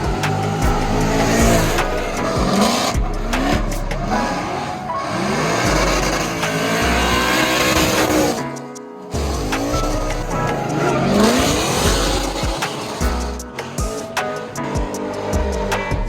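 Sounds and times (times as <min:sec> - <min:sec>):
car engine revving: 0:00.0 - 0:08.4, 0:09.2 - 0:13.8.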